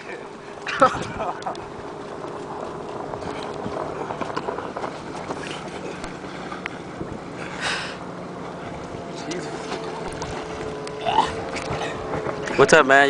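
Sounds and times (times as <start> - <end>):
jet ski engine idling: 0.0 - 13.0
water lapping and splashing: 0.0 - 13.0.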